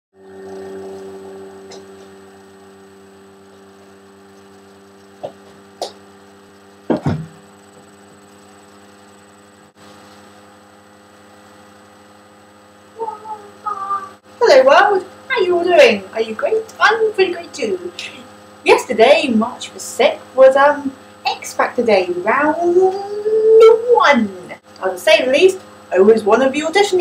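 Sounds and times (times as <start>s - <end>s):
low electrical hum: 0.2s - 27.0s.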